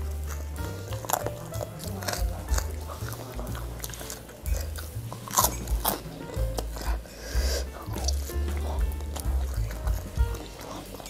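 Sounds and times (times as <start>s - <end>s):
background music with bass line: 0.0s - 11.0s
person chewing: 0.0s - 11.0s.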